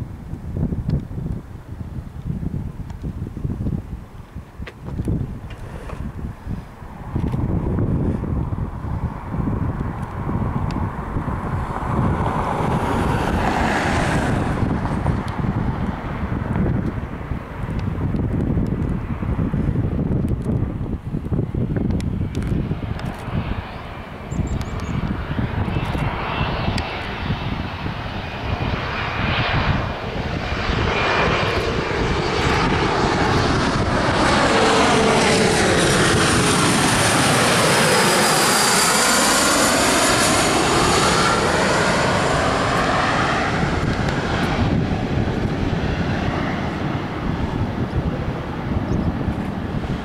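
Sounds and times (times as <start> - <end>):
jet passing overhead: 0.0 - 50.0
wind buffeting microphone: 0.0 - 50.0.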